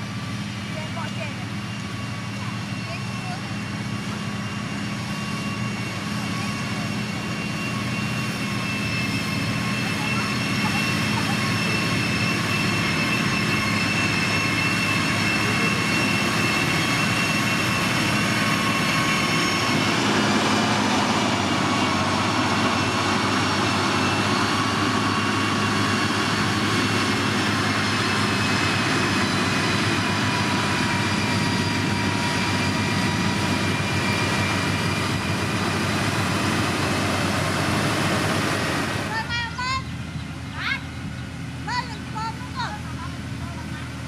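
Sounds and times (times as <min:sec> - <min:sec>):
heavy diesel engine running: 0:00.0 - 0:44.0
high whining tones: 0:01.6 - 0:40.7.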